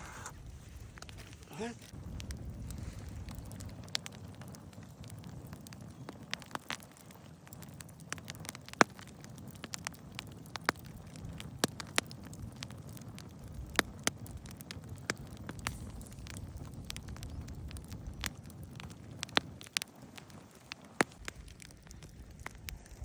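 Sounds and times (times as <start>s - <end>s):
fire rushing: 0.0s - 23.0s
bonfire crackling and popping: 0.1s - 23.0s.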